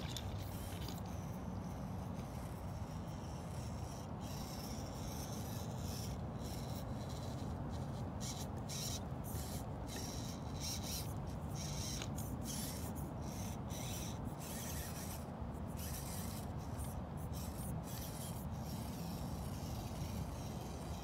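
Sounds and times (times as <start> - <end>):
small electric motor whining: 0.0 - 21.0.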